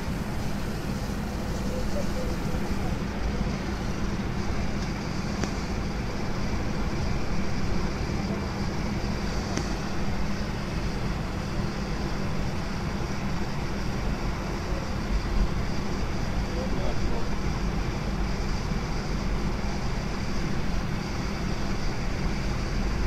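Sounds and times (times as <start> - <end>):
airliner engine noise: 0.0 - 23.0
constant hum: 0.0 - 23.0.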